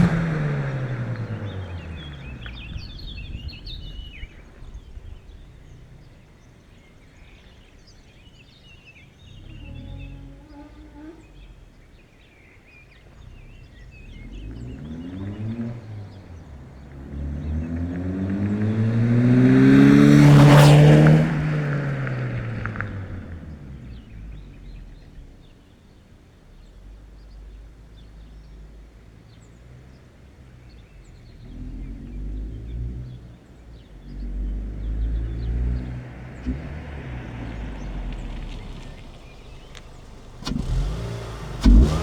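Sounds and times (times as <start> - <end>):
car accelerating past: 0.0 - 12.0, 13.0 - 25.5, 29.5 - 42.0.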